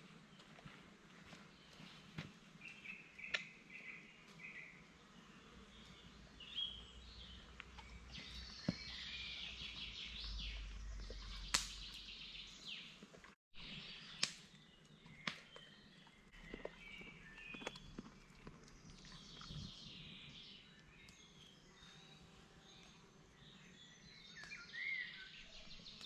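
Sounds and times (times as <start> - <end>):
small birds chirping: 0.3 - 26.0.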